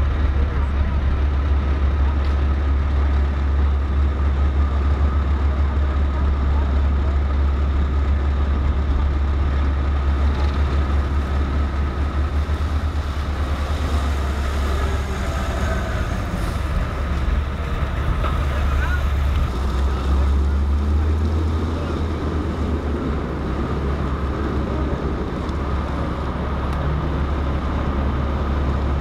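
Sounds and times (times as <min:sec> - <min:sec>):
garbage truck diesel engine rumble: 0:00.0 - 0:29.0.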